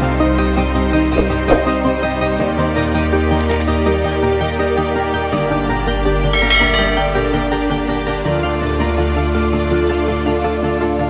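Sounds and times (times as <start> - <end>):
music with sustained synth notes: 0.0 - 11.0.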